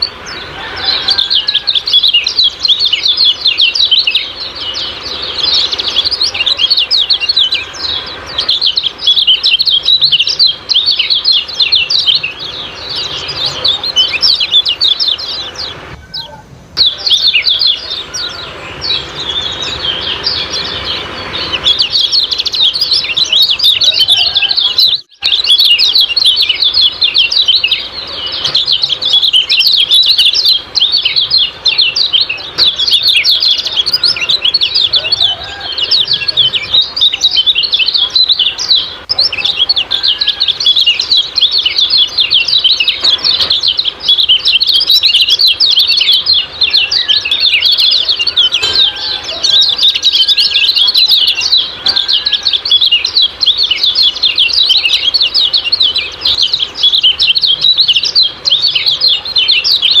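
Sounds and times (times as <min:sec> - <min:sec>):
bird high chirps: 0:00.0 - 1:00.0.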